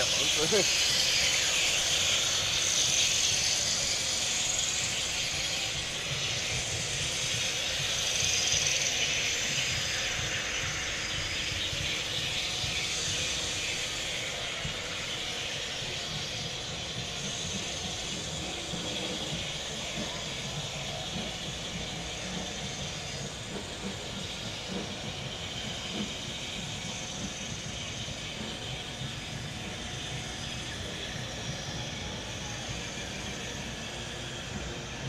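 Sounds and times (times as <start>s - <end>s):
steady rushing hiss: 0.0s - 35.0s.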